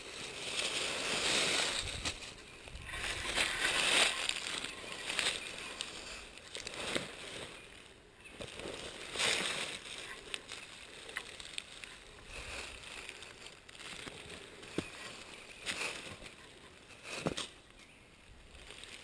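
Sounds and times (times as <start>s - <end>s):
dry leaves rustling and crunching: 0.0s - 19.0s.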